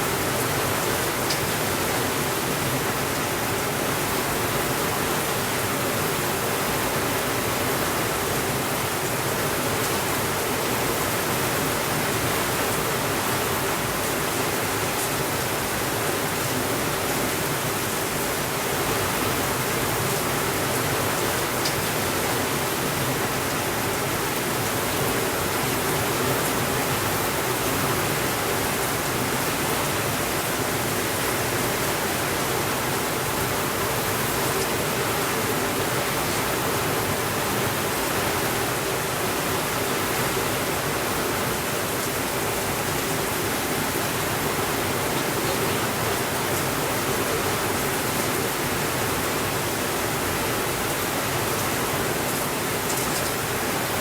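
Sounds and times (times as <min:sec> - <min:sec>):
steady rainfall hiss: 0:00.0 - 0:54.0.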